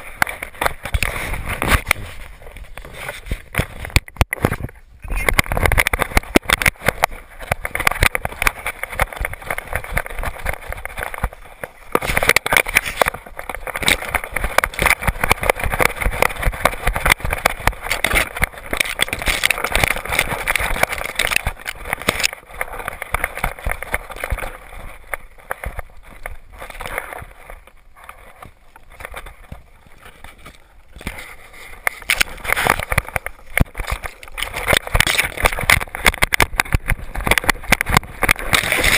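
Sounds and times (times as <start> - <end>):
camera knocking and rattling: 0.0 - 38.9
grass brushing camera: 0.0 - 38.9.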